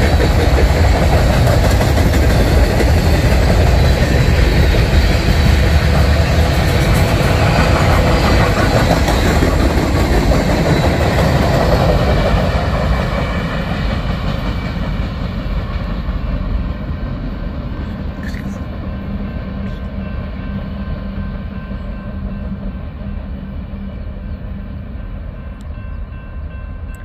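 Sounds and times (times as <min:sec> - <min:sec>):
freight train rolling on rails: 0:00.0 - 0:27.0.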